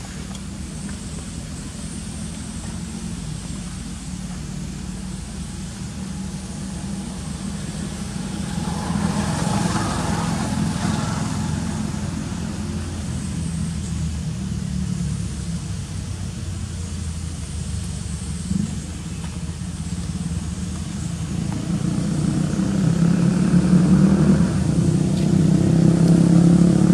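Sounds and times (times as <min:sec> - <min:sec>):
vehicle engine running: 0:00.0 - 0:26.9.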